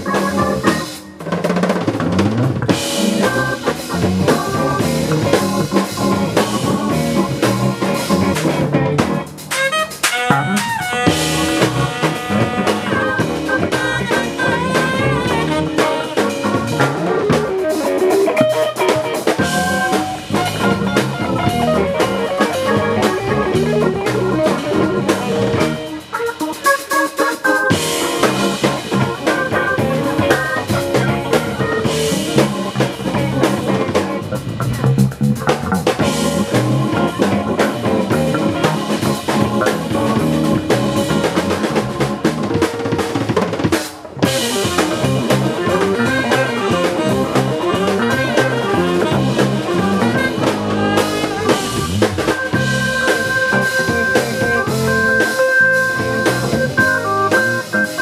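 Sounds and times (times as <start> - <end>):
live band playing: 0.0 - 58.0
snare and bass drum: 0.0 - 58.0.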